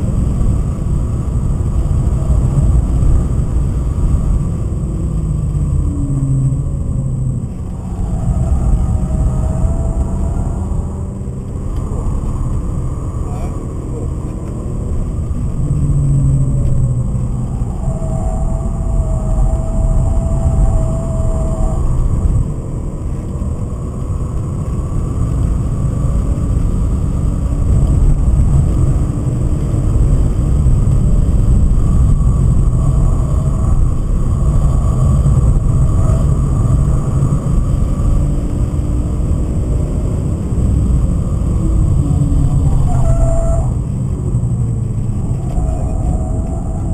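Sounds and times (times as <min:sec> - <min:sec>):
car engine revving at speed: 0:00.0 - 0:46.9.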